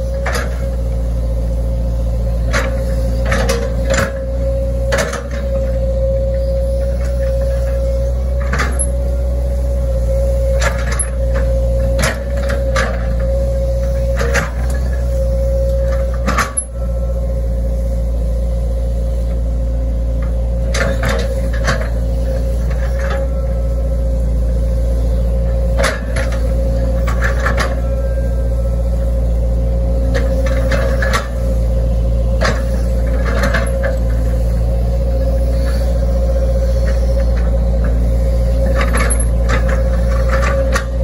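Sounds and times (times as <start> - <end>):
excavator diesel engine: 0.0 - 41.0.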